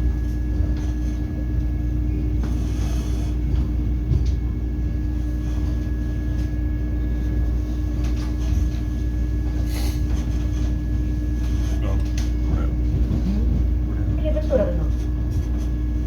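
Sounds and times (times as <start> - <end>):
train coach rumble and hum: 0.0 - 16.0.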